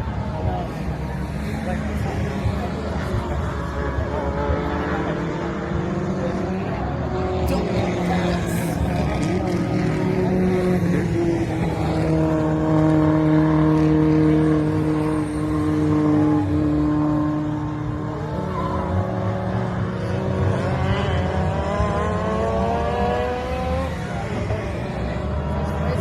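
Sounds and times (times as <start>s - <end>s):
race car engine revving: 3.5s - 26.0s.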